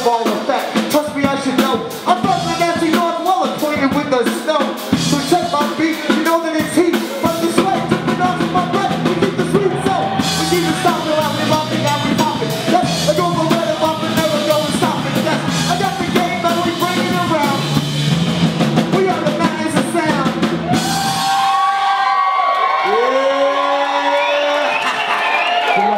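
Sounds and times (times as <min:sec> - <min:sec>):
live band music: 0:00.0 - 0:21.7.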